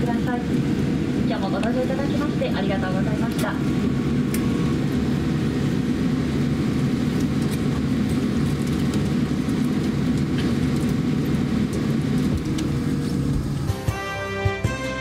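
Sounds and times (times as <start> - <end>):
airliner cabin rumble: 0.0 - 13.8.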